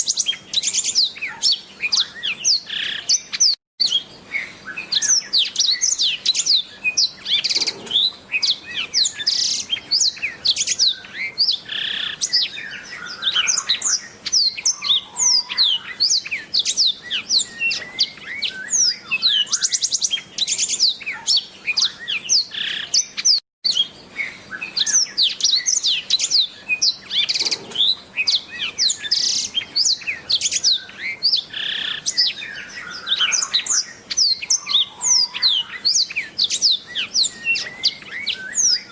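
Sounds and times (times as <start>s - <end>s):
bird singing warbling song: 0.0s - 38.9s.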